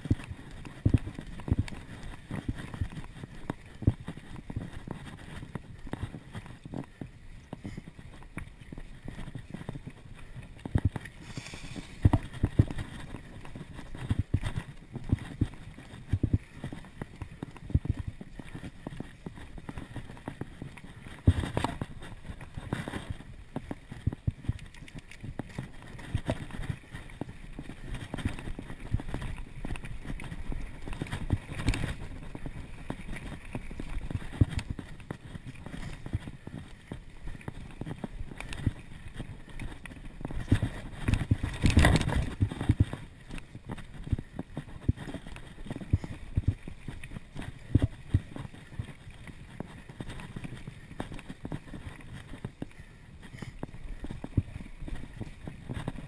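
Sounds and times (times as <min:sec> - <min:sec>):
mountain bike rattling on dirt trail: 0:00.0 - 0:56.0.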